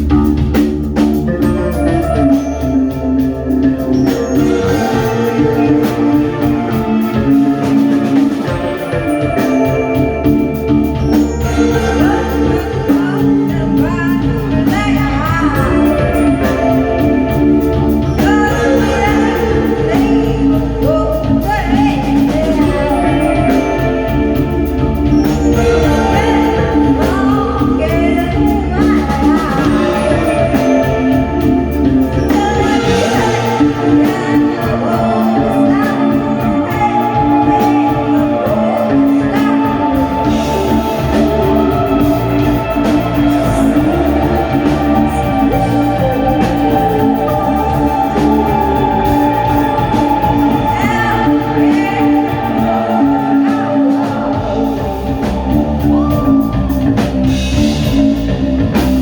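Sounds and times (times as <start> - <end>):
live band music: 0.0 - 59.0
person singing: 0.0 - 59.0.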